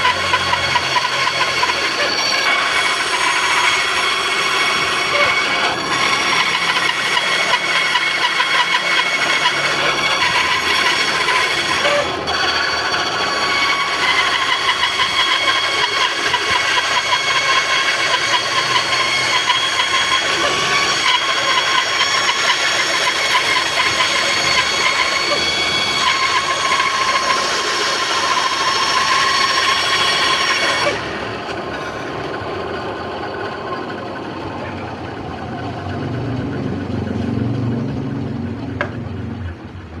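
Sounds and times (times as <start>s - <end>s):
band saw cutting wood: 0.0s - 39.7s
band saw running hum: 0.0s - 40.0s.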